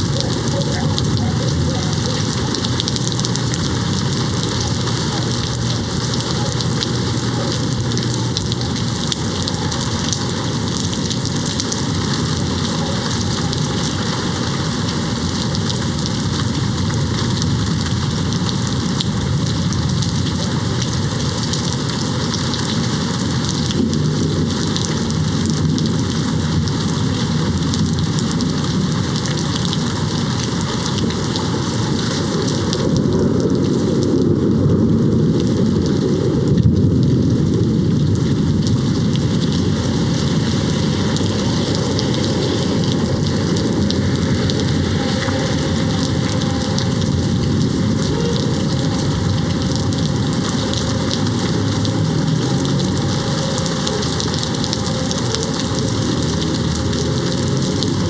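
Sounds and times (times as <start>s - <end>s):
rain hitting a window: 0.0s - 58.0s.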